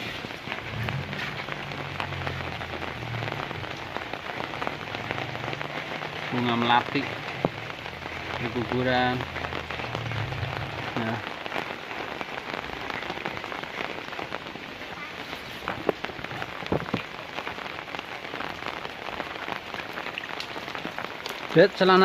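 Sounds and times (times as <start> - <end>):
steady rain on plants: 0.0 - 22.0.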